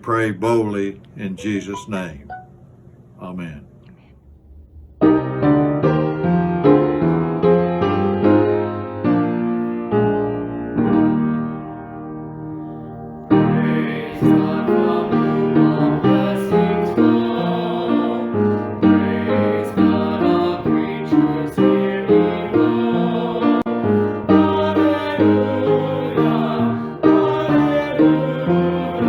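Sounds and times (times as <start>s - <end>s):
piano music: 1.4s - 2.6s, 4.7s - 29.0s.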